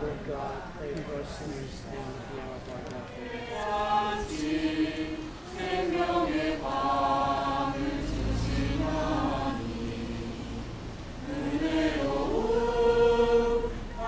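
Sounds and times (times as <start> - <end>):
choir and congregation singing: 0.0 - 14.0.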